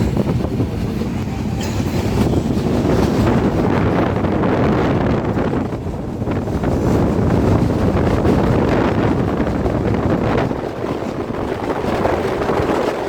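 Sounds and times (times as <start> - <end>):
train rumbling at speed: 0.0 - 13.0
wind buffeting microphone: 0.0 - 13.0.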